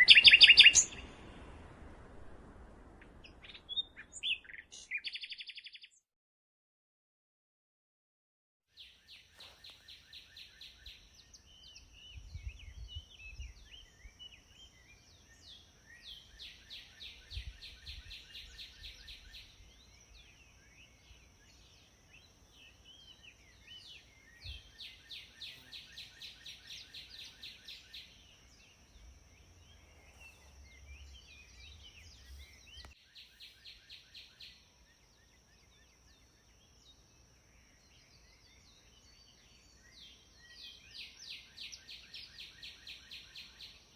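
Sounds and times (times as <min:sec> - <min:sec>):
songbirds singing: 0:00.0 - 0:01.9, 0:02.5 - 0:06.0, 0:08.7 - 0:43.9.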